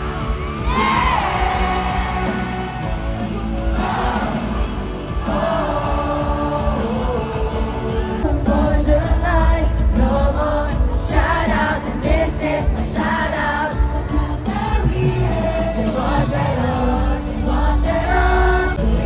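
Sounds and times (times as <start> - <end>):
fans singing along: 0.0 - 19.0
pop concert music over speakers: 0.0 - 19.0.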